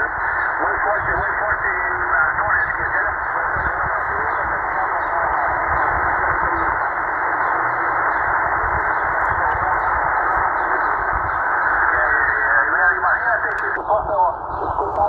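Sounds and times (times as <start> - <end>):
radio static hiss: 0.0 - 15.0
weak radio voice: 0.0 - 15.0.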